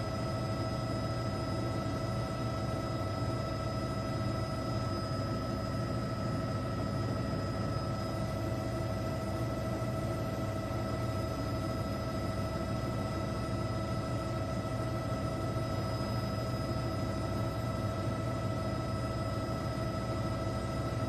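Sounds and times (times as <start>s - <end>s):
helicopter engine and rotor drone: 0.0s - 21.0s
high turbine whine: 0.0s - 21.0s.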